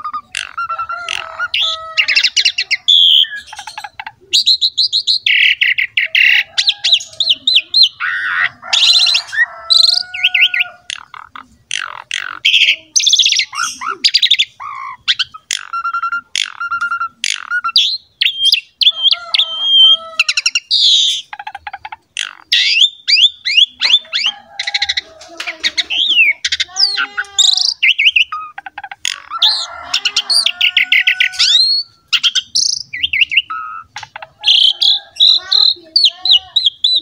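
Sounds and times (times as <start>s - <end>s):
starling singing: 0.0s - 37.0s.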